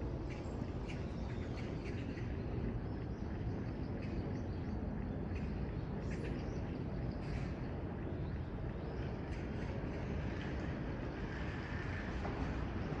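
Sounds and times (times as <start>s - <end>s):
low city background rumble: 0.0s - 13.0s.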